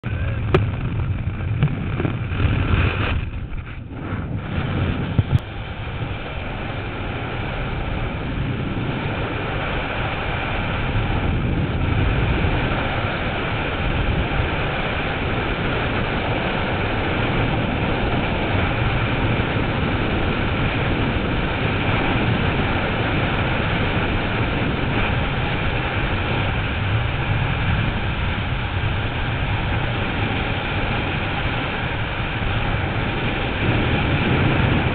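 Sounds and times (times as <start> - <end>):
wind roaring over microphone: 0.0 - 34.9.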